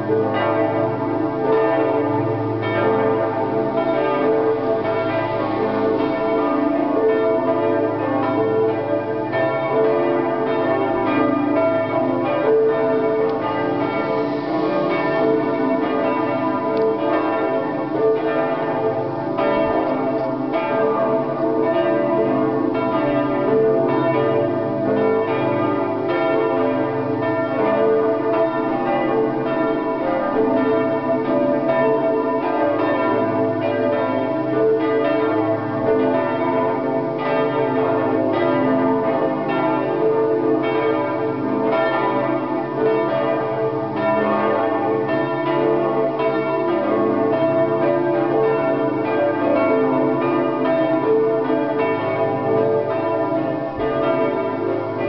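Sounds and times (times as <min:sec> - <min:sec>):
church bells pealing: 0:00.0 - 0:55.0.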